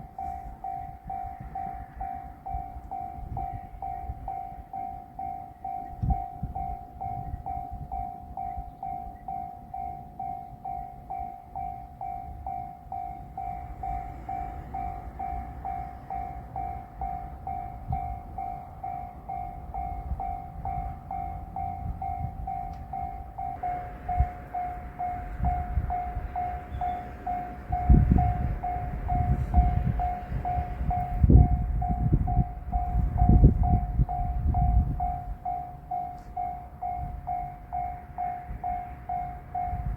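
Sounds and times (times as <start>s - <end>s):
railroad crossing alarm ringing: 0.0s - 39.9s
train rumble: 0.0s - 39.9s.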